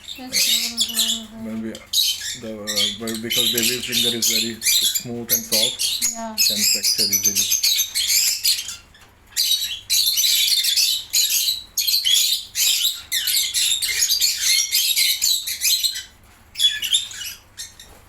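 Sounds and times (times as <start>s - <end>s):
lovebird chick high-pitched calls: 0.0s - 18.0s.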